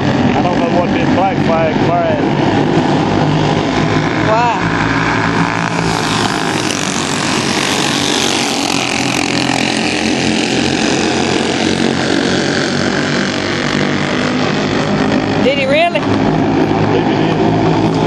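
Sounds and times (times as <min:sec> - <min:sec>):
race car engines at speed: 0:00.0 - 0:18.0.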